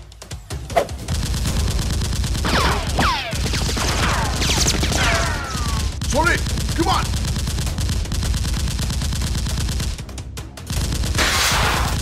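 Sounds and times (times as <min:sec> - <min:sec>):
rapid automatic gunfire: 0:01.0 - 0:12.0.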